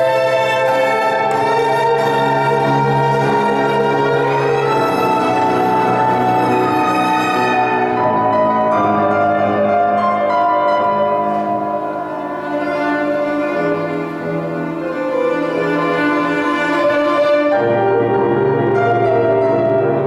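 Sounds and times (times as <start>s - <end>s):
piano accompaniment: 0.0s - 20.0s
violin long bowed notes: 0.0s - 20.0s.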